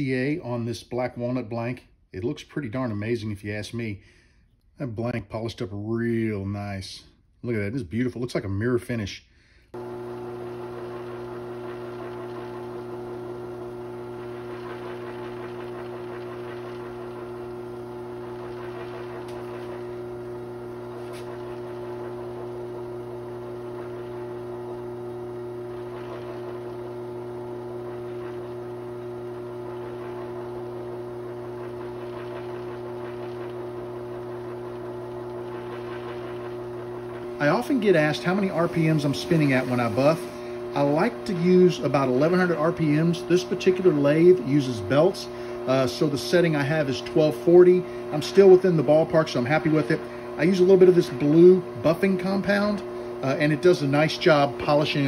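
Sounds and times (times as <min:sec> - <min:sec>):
wood lathe motor hum: 0:09.8 - 0:55.0.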